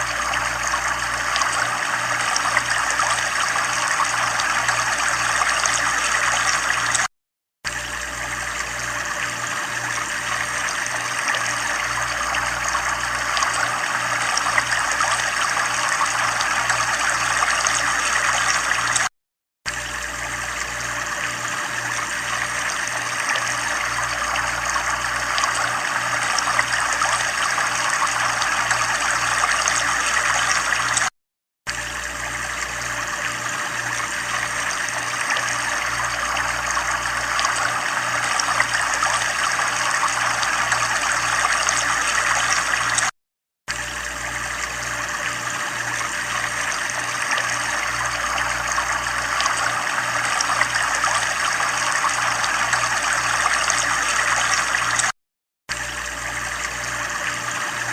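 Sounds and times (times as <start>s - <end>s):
trickling water: 0.0s - 7.1s, 7.7s - 19.1s, 19.7s - 31.1s, 31.7s - 43.1s, 43.7s - 55.1s, 55.7s - 57.9s.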